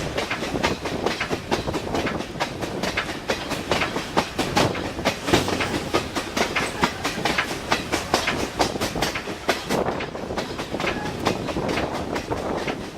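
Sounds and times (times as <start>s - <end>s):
train wheels clattering over rail joints: 0.0s - 12.9s.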